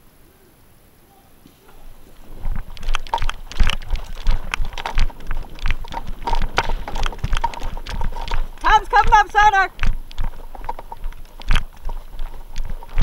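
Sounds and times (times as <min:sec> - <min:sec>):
running footsteps on artificial turf: 0:01.4 - 0:13.0
gear rattling: 0:01.8 - 0:13.0
wind buffeting microphone: 0:01.8 - 0:13.0.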